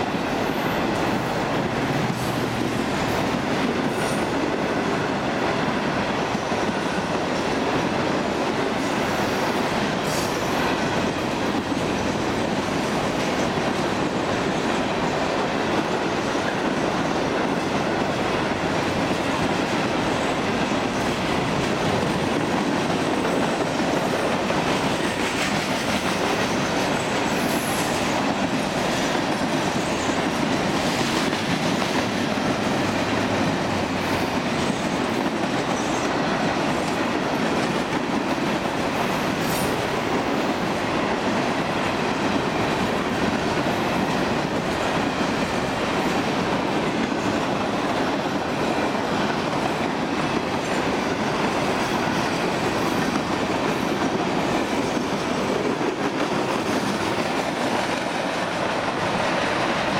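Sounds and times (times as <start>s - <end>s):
freight train wheels rolling on rails: 0.0s - 59.9s.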